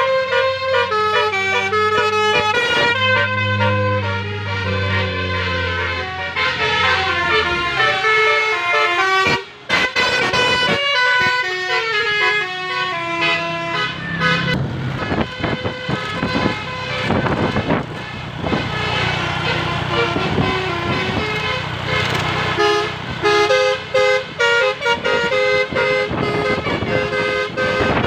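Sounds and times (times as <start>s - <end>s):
multi-tone car horn playing tune: 0.0s - 28.0s.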